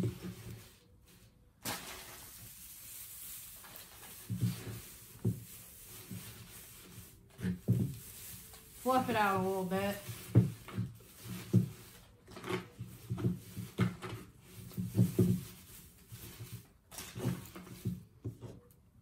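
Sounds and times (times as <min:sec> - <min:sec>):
bucket knocks and scrapes: 0:00.0 - 0:00.8, 0:03.6 - 0:18.6
plastic grass rustling and crinkling: 0:00.0 - 0:18.2.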